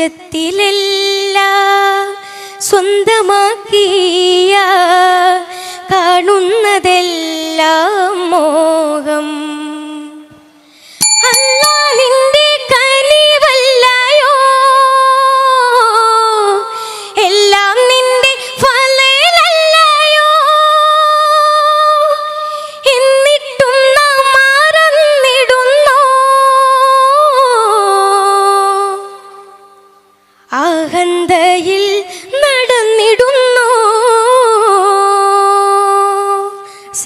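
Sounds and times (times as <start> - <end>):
person singing devotional song: 0.0 - 37.0.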